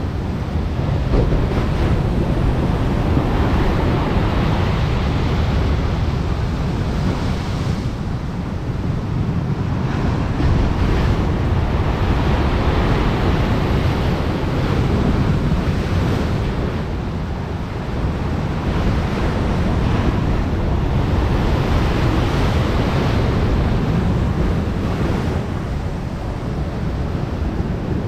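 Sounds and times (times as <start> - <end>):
waves breaking on shore: 0.0 - 28.0
wind buffeting microphone: 0.0 - 28.0.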